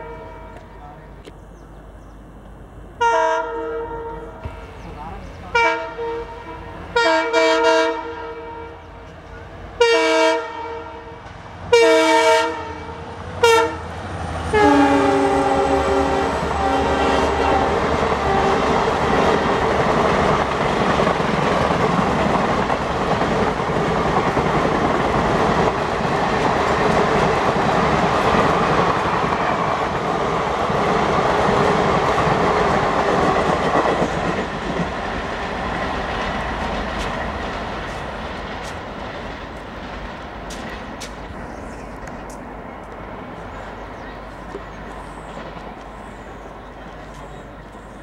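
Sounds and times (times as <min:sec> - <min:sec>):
train coaches rushing past: 0:00.0 - 0:48.0.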